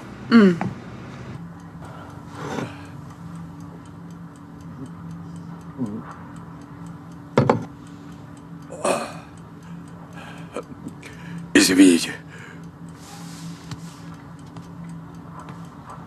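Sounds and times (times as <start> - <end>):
low hum: 0.0 - 16.0
clock ticking: 1.4 - 16.0.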